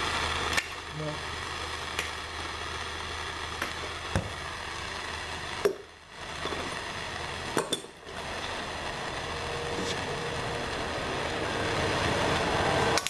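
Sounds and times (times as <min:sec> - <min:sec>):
heating tool rushing hiss: 0:00.0 - 0:13.0.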